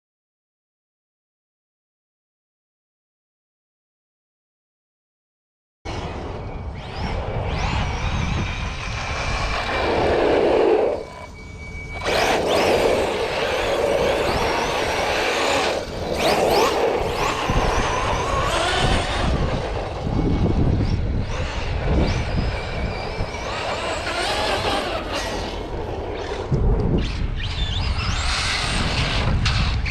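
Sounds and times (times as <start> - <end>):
electric motors whining: 5.9 - 29.9
gear and tyre noise: 5.9 - 29.9.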